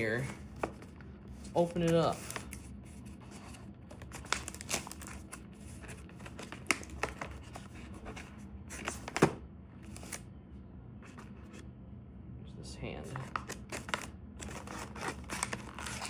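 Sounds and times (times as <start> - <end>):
packaging rustling: 0.0 - 10.2, 13.2 - 16.0.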